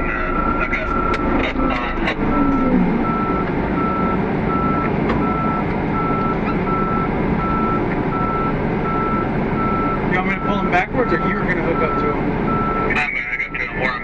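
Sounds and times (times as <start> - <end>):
engine running: 0.0 - 14.0
reversing alarm beeping: 0.2 - 13.6.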